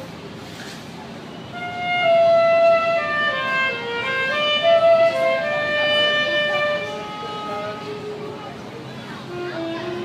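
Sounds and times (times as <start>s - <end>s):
wind instrument melody: 1.4s - 10.0s.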